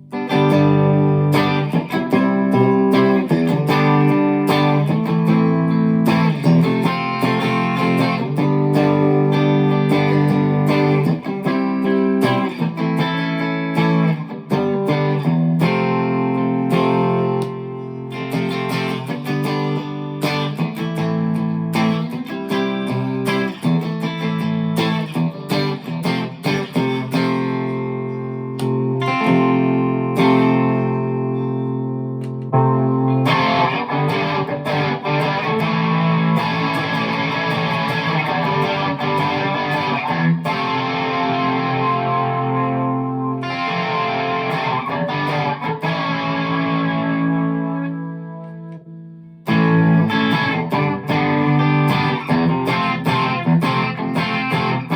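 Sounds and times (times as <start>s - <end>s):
electric guitar through amp: 0.0s - 54.9s.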